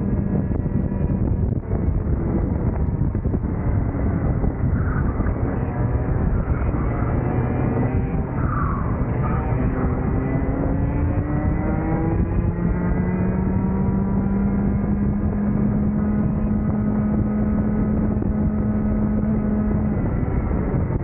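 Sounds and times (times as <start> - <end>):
kart engine revving high: 0.0 - 21.0.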